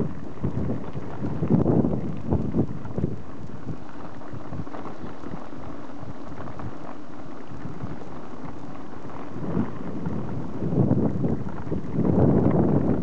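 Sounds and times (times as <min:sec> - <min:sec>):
bicycle tyres rolling on gravel: 0:00.0 - 0:13.0
wind on microphone: 0:00.0 - 0:13.0.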